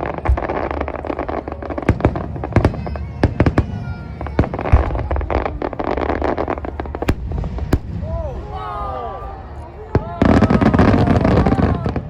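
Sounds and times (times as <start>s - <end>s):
deep firework boom: 0.0s - 12.0s
fireworks bangs and crackles: 0.0s - 12.0s.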